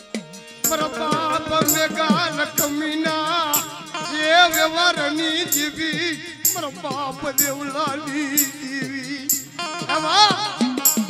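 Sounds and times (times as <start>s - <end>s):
bright percussion strokes: 0.0s - 9.9s, 10.6s - 11.0s
ornamented folk melody: 0.5s - 9.6s.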